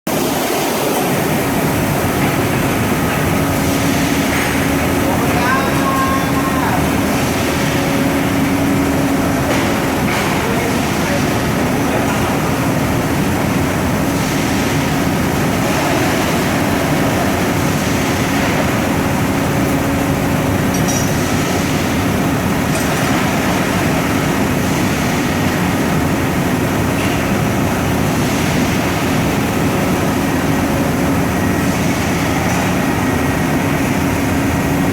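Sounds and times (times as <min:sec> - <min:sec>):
machinery running: 0:00.1 - 0:34.9.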